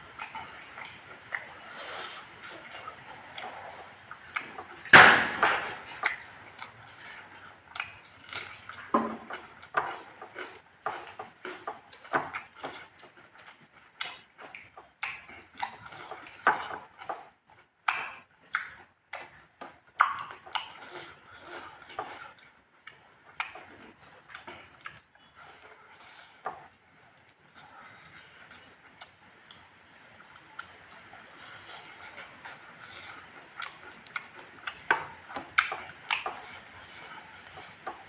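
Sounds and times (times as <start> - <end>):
wet chewing and lip-smacking: 0.0 - 38.0.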